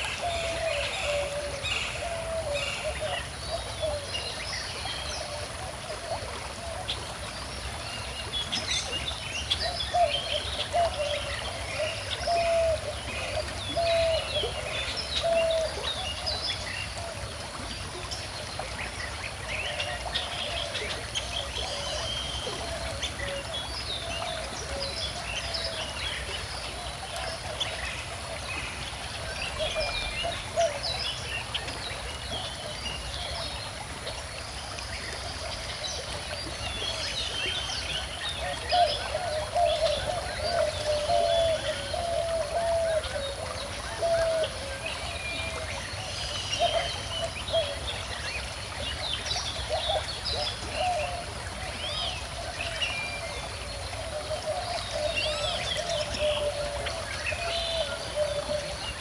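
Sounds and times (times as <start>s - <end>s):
gently flowing river: 0.0s - 59.0s.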